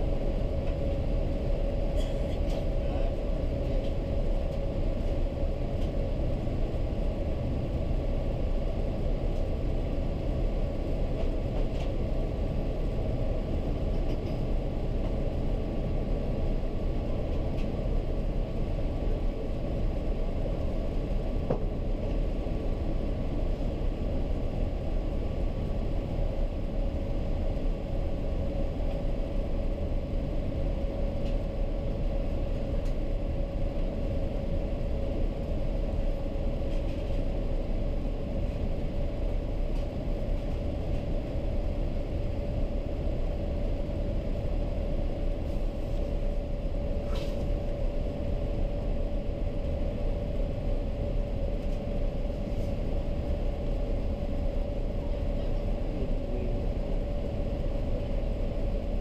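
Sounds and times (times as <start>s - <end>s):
airliner cabin rumble: 0.0s - 59.0s
constant hum tone: 0.0s - 59.0s.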